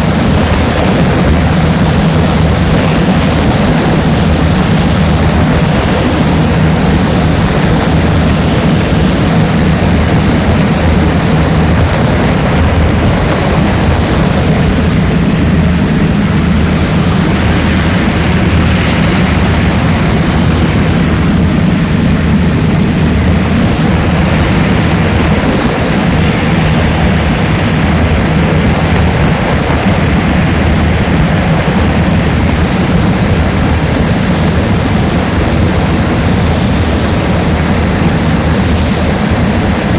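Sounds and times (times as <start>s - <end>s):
propeller aircraft engine drone: 0.0s - 39.9s
rushing air: 0.0s - 39.9s.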